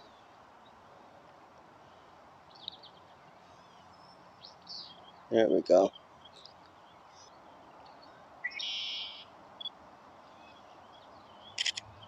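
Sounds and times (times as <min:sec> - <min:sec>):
faint bird chirps: 0:01.8 - 0:12.0.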